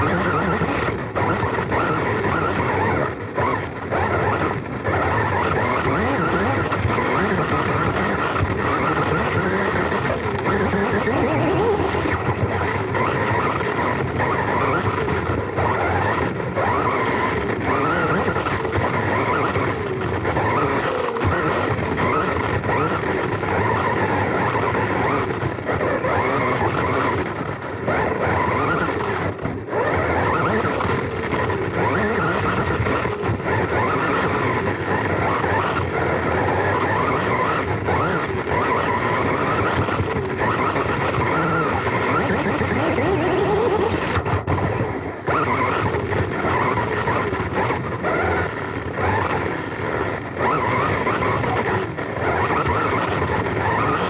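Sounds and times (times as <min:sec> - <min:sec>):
electric motor whine: 0:00.0 - 0:54.0
tyre and wind noise: 0:00.0 - 0:54.0.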